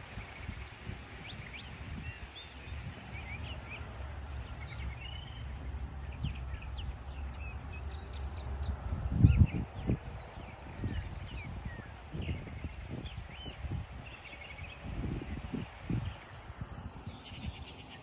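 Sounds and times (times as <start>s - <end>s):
steady low rumble: 0.0s - 17.9s
small birds chirping and trilling: 0.0s - 18.0s.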